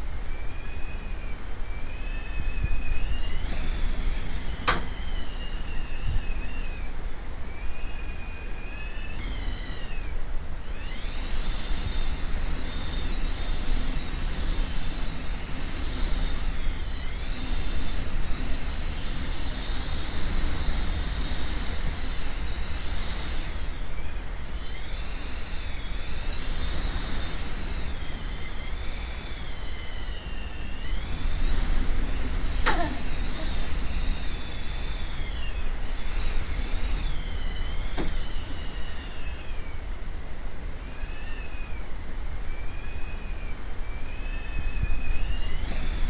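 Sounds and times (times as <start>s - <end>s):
constant low rumble: 0.0s - 46.0s
wind gusting and whistling: 0.0s - 46.0s.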